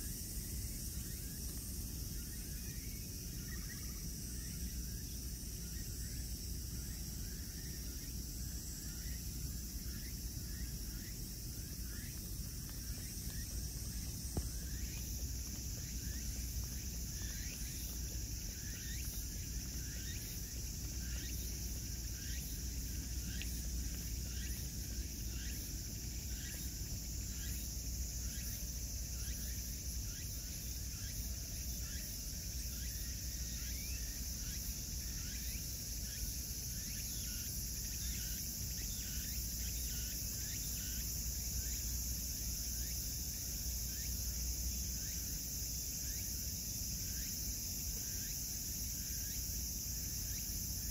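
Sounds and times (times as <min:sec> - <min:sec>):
insect chorus chirping: 0:00.0 - 0:50.9.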